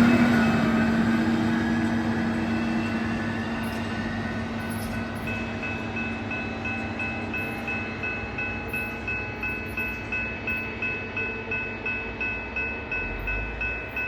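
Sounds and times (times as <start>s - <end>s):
pulsing bell-like tone: 0.0s - 14.0s
railroad maintenance vehicle humming: 0.0s - 14.0s.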